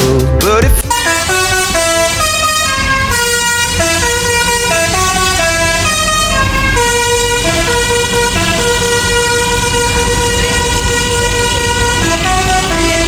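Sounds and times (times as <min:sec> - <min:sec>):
low engine rumble: 0:00.0 - 0:13.0
bus musical horn playing tune: 0:00.8 - 0:13.0.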